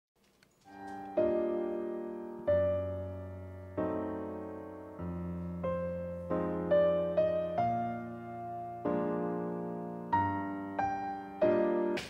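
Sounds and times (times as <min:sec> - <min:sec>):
soft piano chords: 0:00.6 - 0:12.0.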